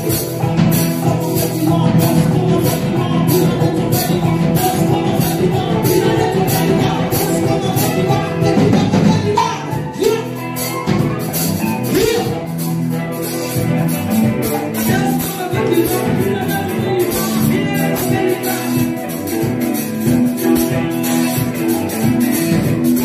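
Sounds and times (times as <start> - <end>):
live band music: 0.0 - 23.0.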